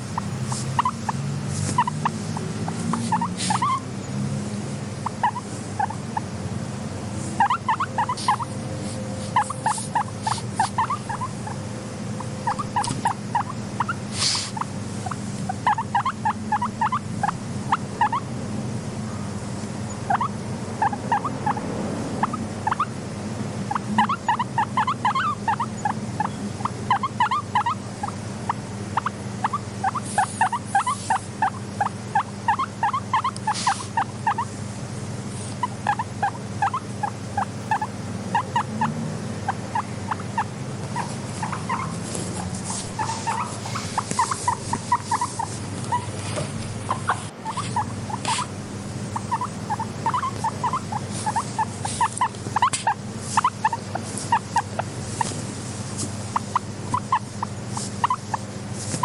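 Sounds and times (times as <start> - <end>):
guinea pig squeaking: 0.0 - 3.9, 5.0 - 6.3, 7.2 - 18.3, 19.9 - 21.6, 22.2 - 23.0, 23.6 - 34.6, 35.3 - 59.0
steady low hum: 0.0 - 59.0.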